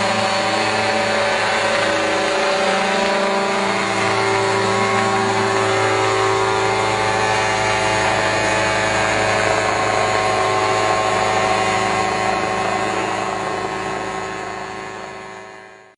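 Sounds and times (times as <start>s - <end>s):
drone motors and propellers buzzing: 0.0s - 15.9s.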